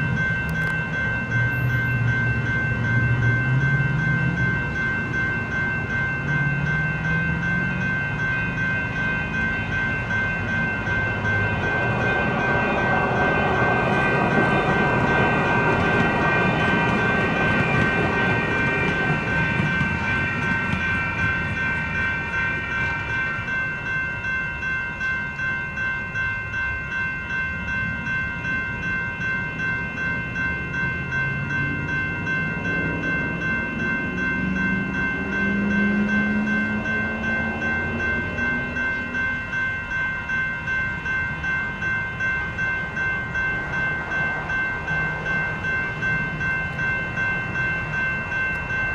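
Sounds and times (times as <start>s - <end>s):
railroad crossing bells ringing: 0.0s - 48.9s.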